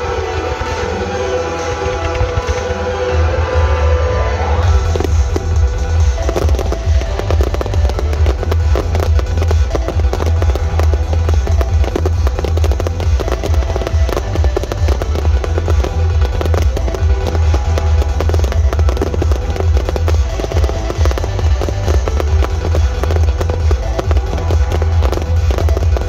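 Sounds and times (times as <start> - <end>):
fireworks bursting and crackling: 0.0 - 26.0
loud music with heavy bass beat: 0.0 - 26.0.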